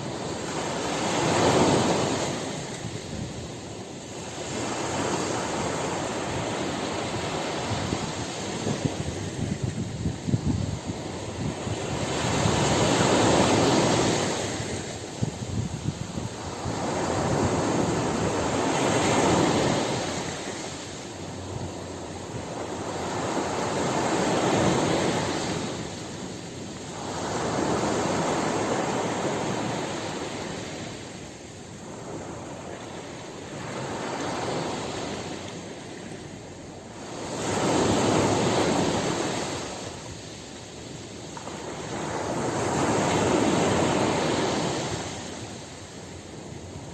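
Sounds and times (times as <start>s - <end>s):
ocean waves washing in: 0.0s - 46.9s.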